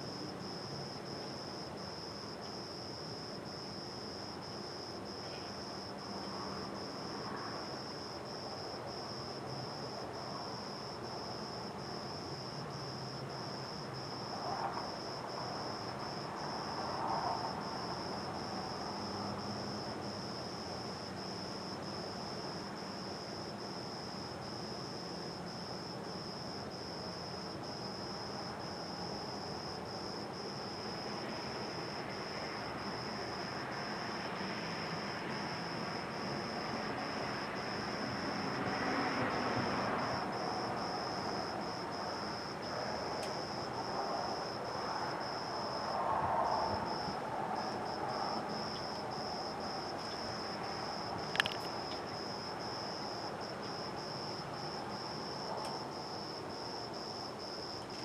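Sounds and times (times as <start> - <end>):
cricket chirping: 0.0 - 58.0
faint background hiss: 0.0 - 58.0.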